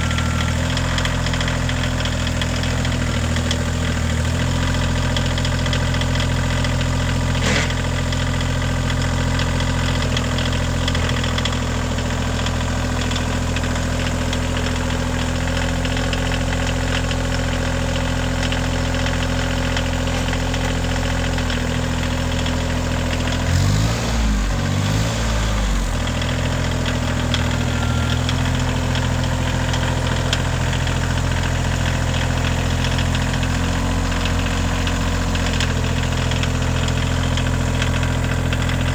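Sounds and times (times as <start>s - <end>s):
diesel tractor engine idling: 0.0s - 38.9s.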